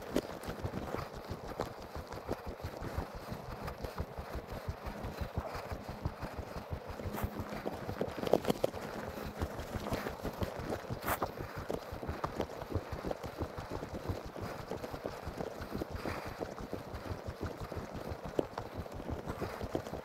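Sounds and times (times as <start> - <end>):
footsteps on snowy trail: 0.0 - 20.0.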